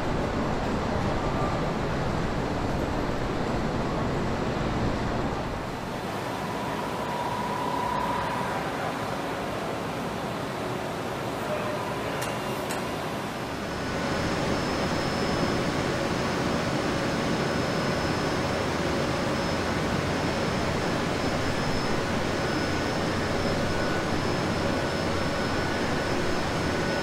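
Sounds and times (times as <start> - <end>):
faint high whine: 0.0 - 27.0
machine shop hum: 0.0 - 27.0
industrial three-d printer running: 5.4 - 27.0.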